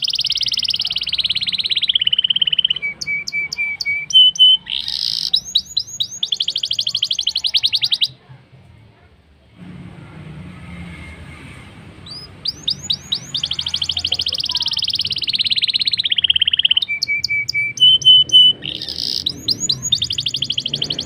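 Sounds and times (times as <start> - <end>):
bird singing rapid trills: 0.0 - 8.2, 12.0 - 21.0
bird whistles: 0.0 - 8.2, 12.0 - 21.0.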